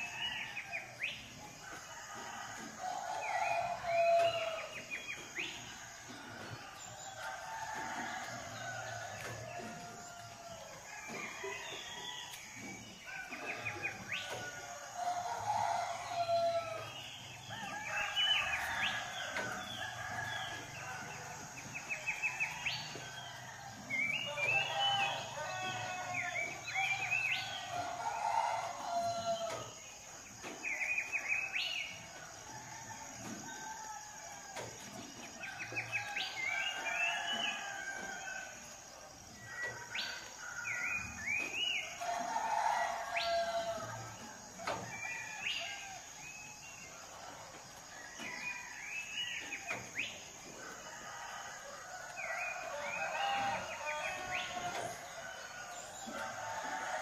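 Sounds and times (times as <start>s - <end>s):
roosters crowing: 0.0s - 57.0s
songbirds chirping and trilling: 0.0s - 57.0s.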